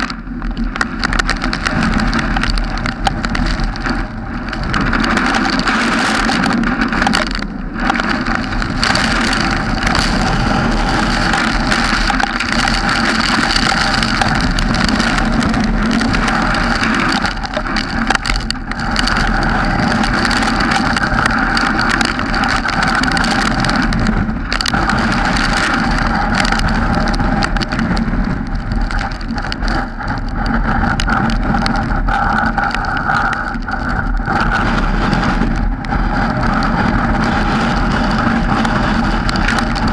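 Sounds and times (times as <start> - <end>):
wind and rain on microphone: 0.0 - 39.9.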